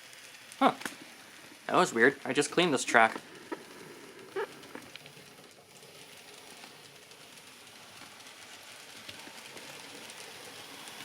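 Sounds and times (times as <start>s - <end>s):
model train motor whir: 0.0s - 11.0s.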